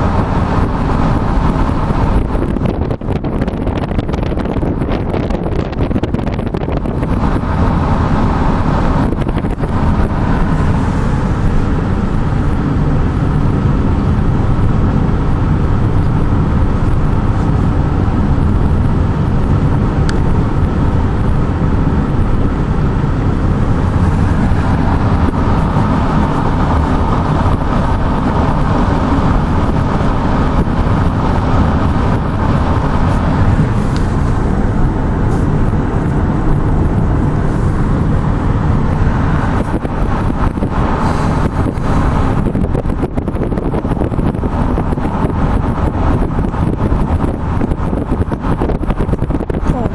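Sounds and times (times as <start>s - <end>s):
car engine and tyre noise: 0.0s - 49.9s.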